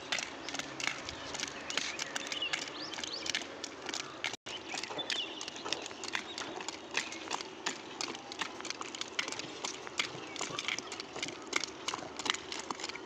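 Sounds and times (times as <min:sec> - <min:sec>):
clicks and knocks of skating strides: 0:00.0 - 0:13.0
roller skate wheels rumbling: 0:00.0 - 0:13.0.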